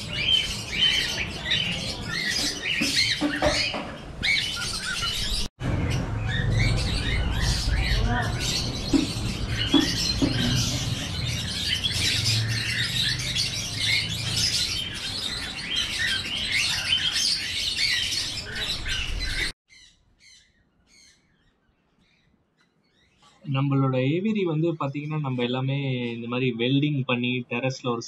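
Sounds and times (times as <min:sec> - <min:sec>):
birds chirping and squawking: 0:00.0 - 0:28.0.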